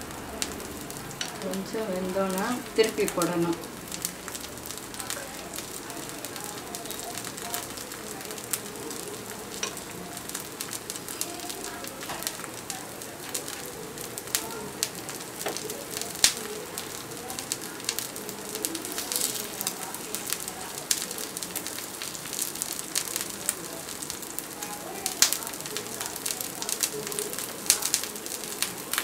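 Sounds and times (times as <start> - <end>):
batter sizzling in oil: 0.0 - 29.0
oil crackling and popping: 0.0 - 29.0.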